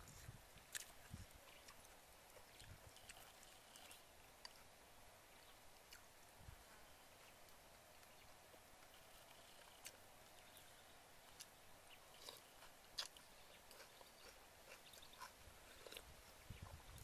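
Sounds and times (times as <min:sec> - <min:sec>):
person chewing: 0:00.1 - 0:04.7, 0:05.8 - 0:07.6, 0:08.8 - 0:17.0.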